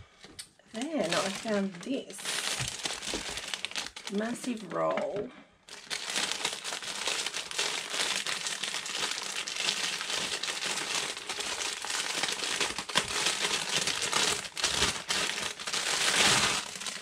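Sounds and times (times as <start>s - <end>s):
plastic wrapping crinkling: 0.4s - 17.0s.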